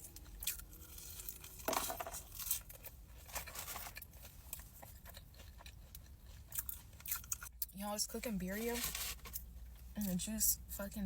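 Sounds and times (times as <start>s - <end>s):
food handling clicks and rustles: 0.0s - 7.5s, 8.4s - 10.2s
crunchy chewing of fried food: 0.0s - 10.2s.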